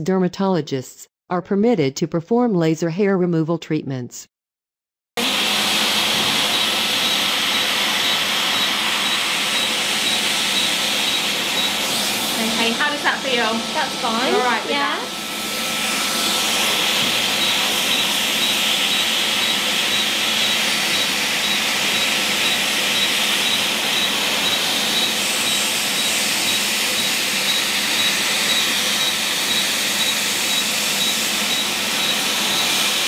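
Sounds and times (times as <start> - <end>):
machine blowing hiss: 5.2 - 33.0.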